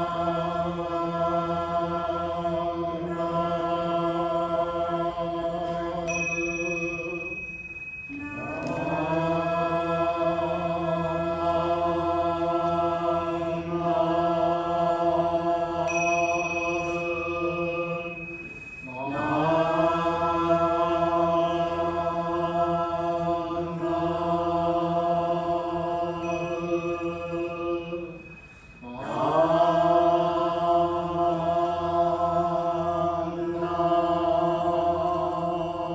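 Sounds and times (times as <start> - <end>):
voices chanting sutra: 0.0 - 35.9.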